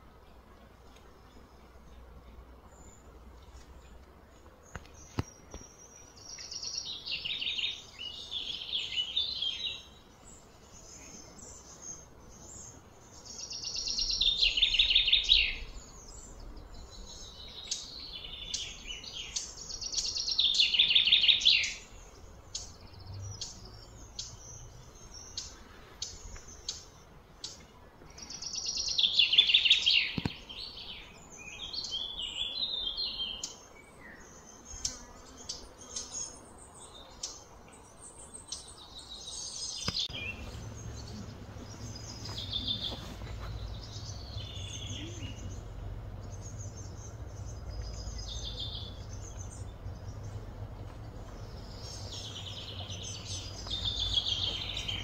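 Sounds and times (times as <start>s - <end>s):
songbird singing: 0.0s - 55.0s
bird chirps: 4.6s - 55.0s.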